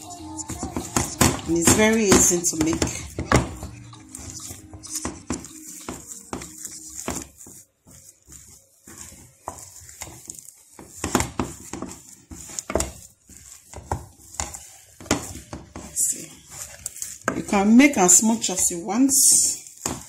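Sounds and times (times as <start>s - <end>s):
wooden spoon scraping a pot: 0.0s - 20.0s.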